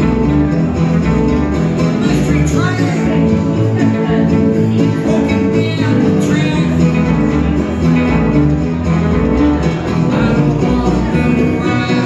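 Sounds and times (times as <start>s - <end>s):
banjo: 0.0s - 12.0s
guitars strumming: 0.0s - 12.0s.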